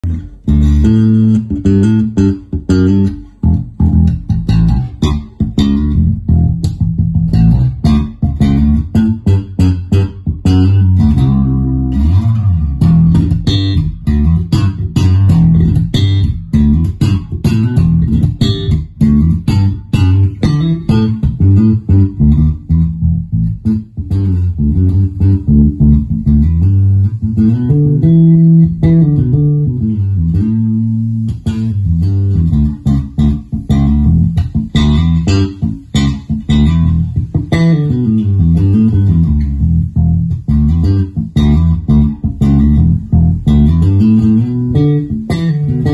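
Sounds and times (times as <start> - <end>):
electric bass guitar riffs: 0.0 - 45.9.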